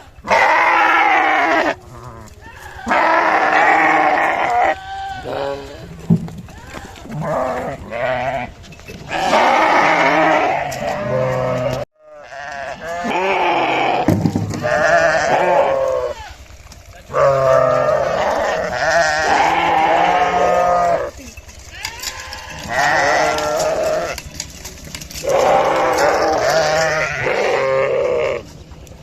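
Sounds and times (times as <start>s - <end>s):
sheep bleating: 0.0s - 24.6s, 25.2s - 28.5s.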